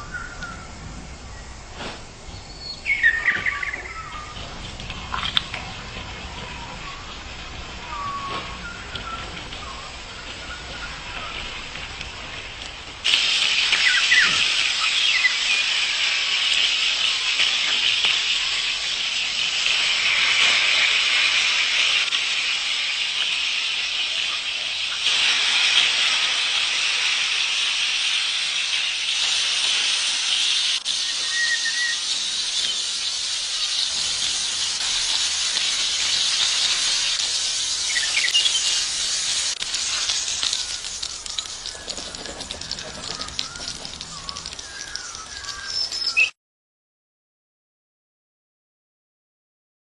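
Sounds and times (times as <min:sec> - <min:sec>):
food frying in hot oil: 0:00.0 - 0:46.4.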